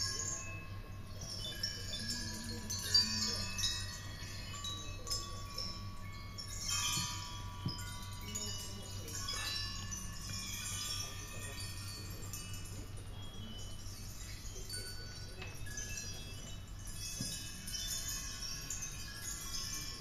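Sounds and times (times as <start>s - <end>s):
metal sculpture chiming: 0.0s - 20.0s.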